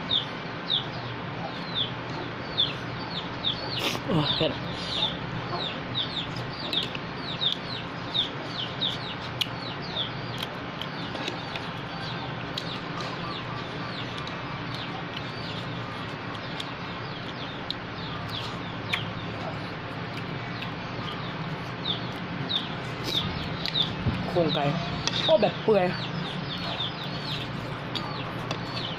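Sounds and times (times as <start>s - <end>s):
chicks peeping: 0.1s - 28.9s.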